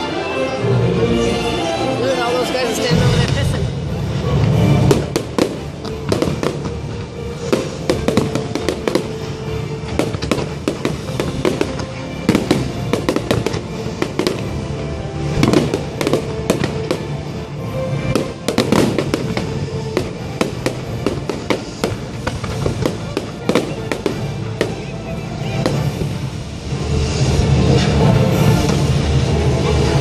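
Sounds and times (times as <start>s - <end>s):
fireworks bangs and crackles: 2.6s - 30.0s.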